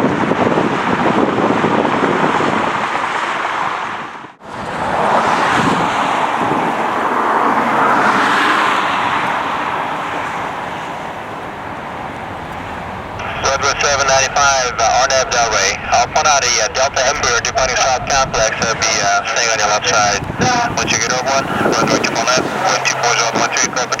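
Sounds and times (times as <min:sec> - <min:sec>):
jet airliner engines: 0:00.0 - 0:24.0
wind buffeting microphone: 0:00.0 - 0:24.0.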